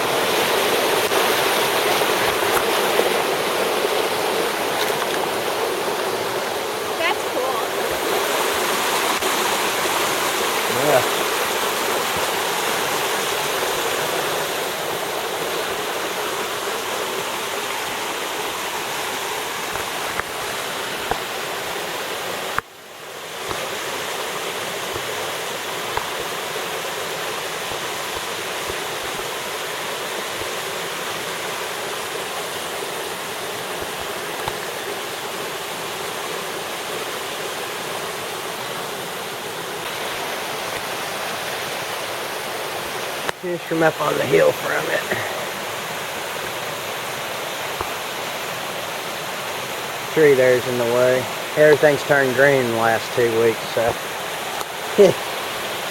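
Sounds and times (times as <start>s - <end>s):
flooding creek rushing: 0.0s - 55.9s.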